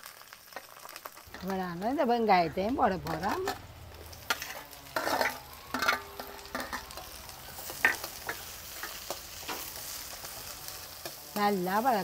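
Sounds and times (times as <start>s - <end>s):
onions sizzling in hot oil: 0.0s - 12.0s
metal spoon scraping a pan: 2.4s - 12.0s.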